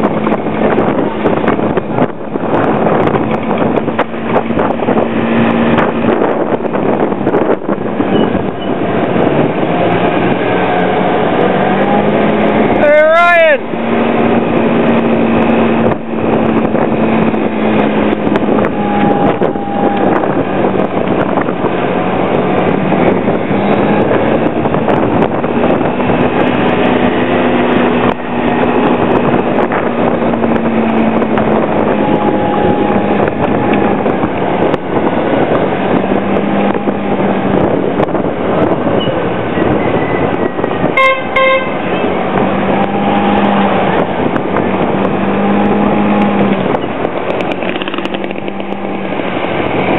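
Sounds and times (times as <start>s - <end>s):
scooter engine cruising: 0.0s - 49.9s
wind rushing across microphone: 0.0s - 49.9s.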